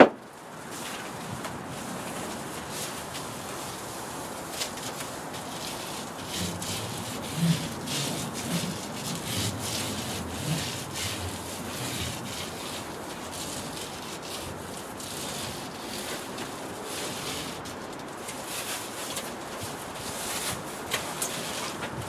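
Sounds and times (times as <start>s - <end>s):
foil insulation rustling: 0.0s - 22.0s.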